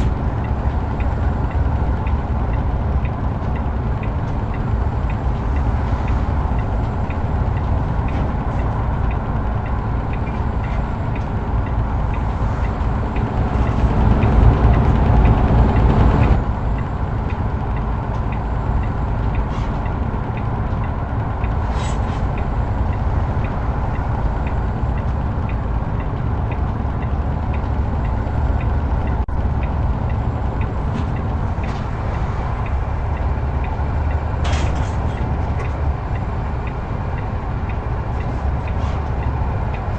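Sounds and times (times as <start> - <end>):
heavy truck engine drone: 0.0 - 39.9
low road rumble: 0.0 - 39.9.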